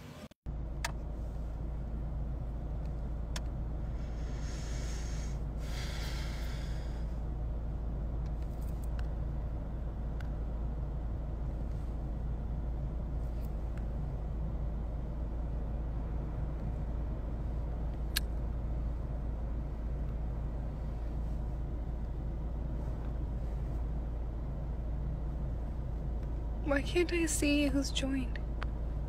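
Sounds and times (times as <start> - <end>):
low background rumble and hum: 0.0 - 29.0.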